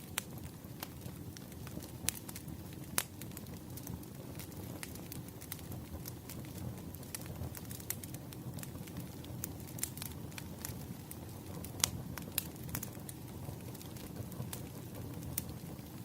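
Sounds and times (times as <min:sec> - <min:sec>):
campfire crackling: 0:00.0 - 0:16.0
low rushing of fire: 0:00.0 - 0:16.0
sharp pops of fire: 0:00.0 - 0:16.0.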